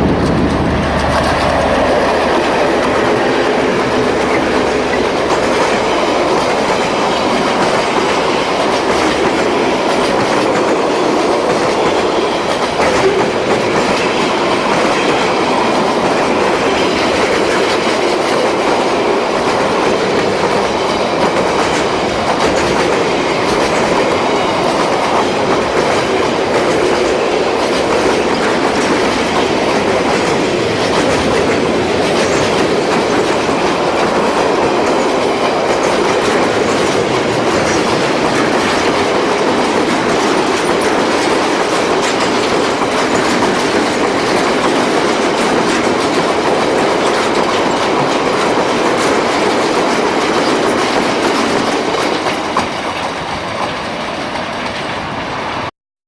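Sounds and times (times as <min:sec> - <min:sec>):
train wheels clicking over rail joints: 0:00.0 - 0:55.7.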